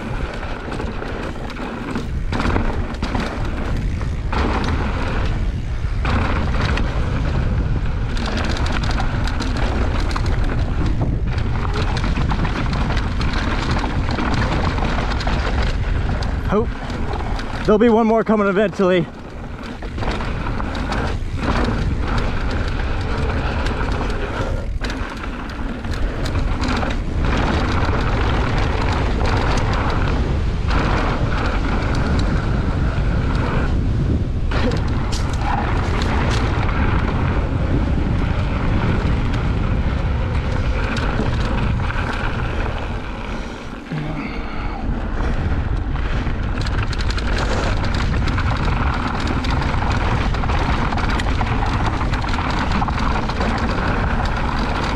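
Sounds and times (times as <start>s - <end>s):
bike knocks and rattles: 0.0s - 54.9s
tyres rumbling on dirt and rock: 0.0s - 54.9s
wind buffeting microphone: 0.0s - 54.9s.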